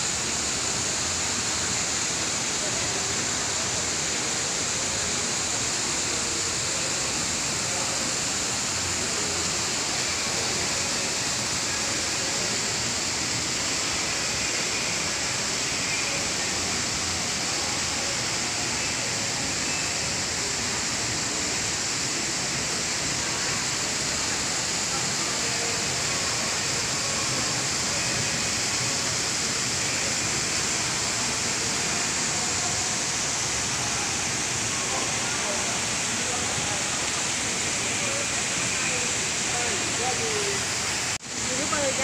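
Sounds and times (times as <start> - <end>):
waterfall pouring into pond: 0.0 - 42.0.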